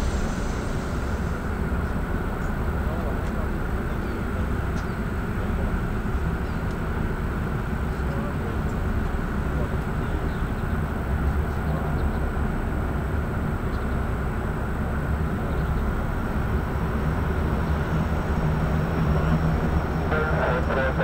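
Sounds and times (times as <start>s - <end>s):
turboprop engines droning: 0.0s - 21.0s.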